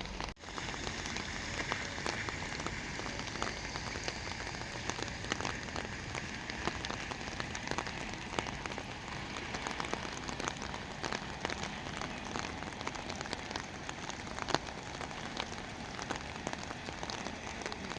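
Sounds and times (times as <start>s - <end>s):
rain falling: 0.0s - 17.9s.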